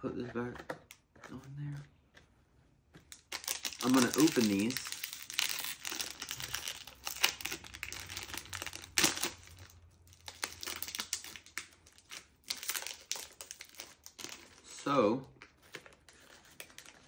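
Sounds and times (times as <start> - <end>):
wrapper crinkling and tearing: 3.1 - 17.0.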